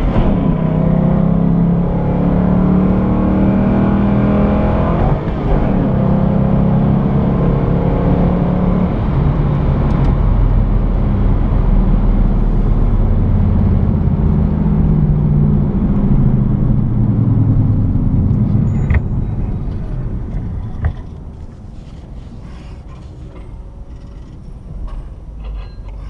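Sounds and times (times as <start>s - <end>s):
car engine shifting gears: 0.0s - 26.0s.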